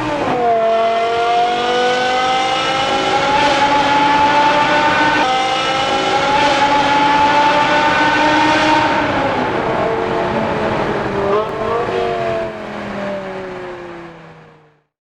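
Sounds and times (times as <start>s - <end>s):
car engine revving loudly: 0.0s - 14.6s.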